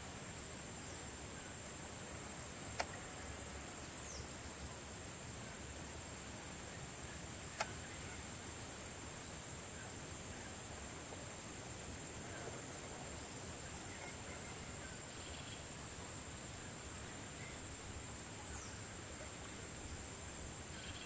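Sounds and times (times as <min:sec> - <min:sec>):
steady high-pitched whine: 0:00.0 - 0:21.0.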